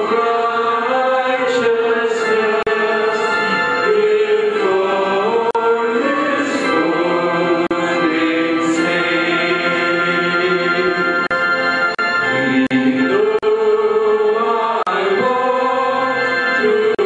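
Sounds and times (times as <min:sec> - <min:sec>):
voices singing a hymn: 0:00.0 - 0:17.0.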